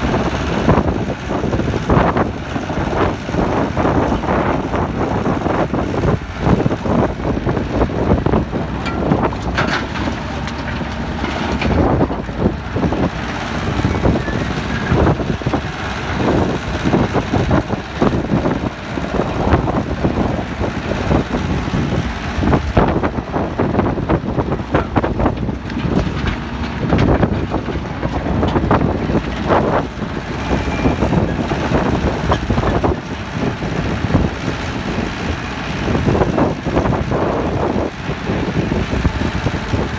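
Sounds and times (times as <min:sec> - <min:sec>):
excavator clanks and knocks: 0:00.0 - 0:39.9
excavator diesel engine: 0:00.0 - 0:39.9.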